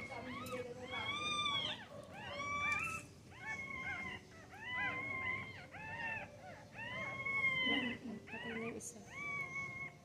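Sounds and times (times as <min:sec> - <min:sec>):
puppies squealing: 0:00.0 - 0:10.0.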